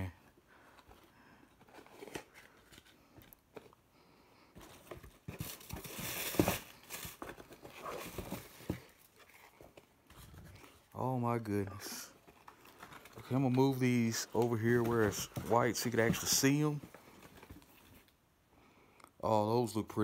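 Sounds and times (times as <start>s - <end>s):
packaging rustling and crinkling: 0.0s - 3.8s, 4.5s - 11.0s, 11.6s - 18.2s.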